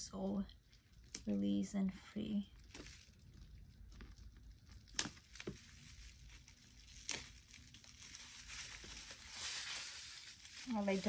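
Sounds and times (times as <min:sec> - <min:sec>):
plastic wrapping crinkling: 0:00.3 - 0:01.6, 0:02.2 - 0:11.0.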